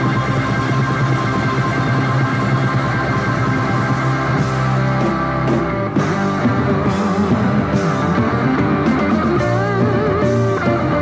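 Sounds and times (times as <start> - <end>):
bass and drums: 0.0 - 11.0
electric guitar solo: 0.0 - 11.0.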